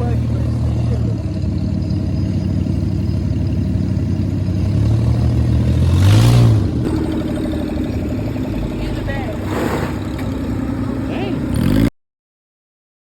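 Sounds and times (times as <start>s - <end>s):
dune buggy engine revving: 0.0s - 11.9s.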